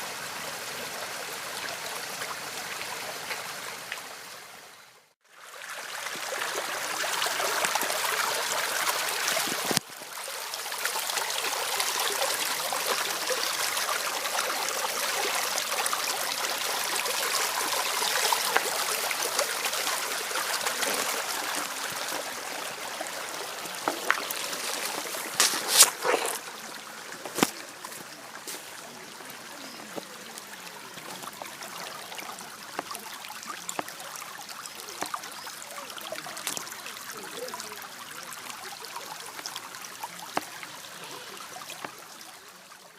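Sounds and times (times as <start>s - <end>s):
fountain water trickling and splashing: 0.0s - 42.9s.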